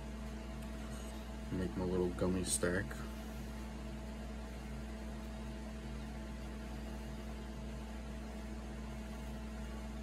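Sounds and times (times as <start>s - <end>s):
room hum and hiss: 0.0s - 10.0s.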